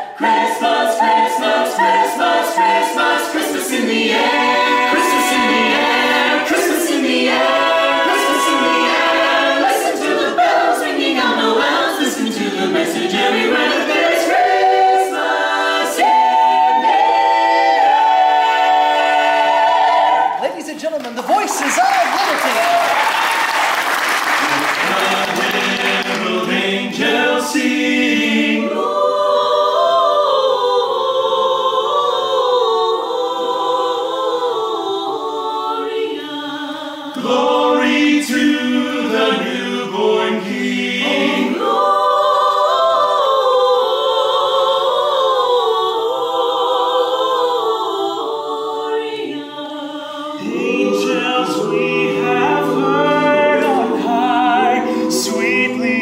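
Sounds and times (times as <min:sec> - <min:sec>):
a cappella choir singing: 0:00.0 - 0:20.6, 0:23.1 - 0:56.0.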